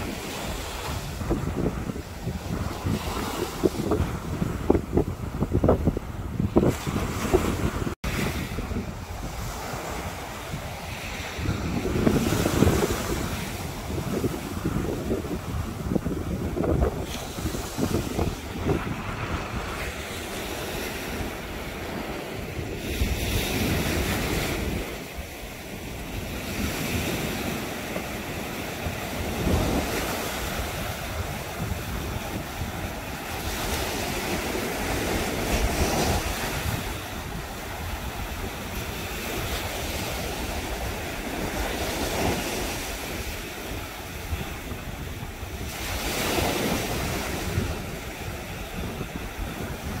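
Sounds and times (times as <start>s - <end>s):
small waves breaking on beach: 0.0s - 50.0s
wind buffeting microphone: 0.0s - 50.0s.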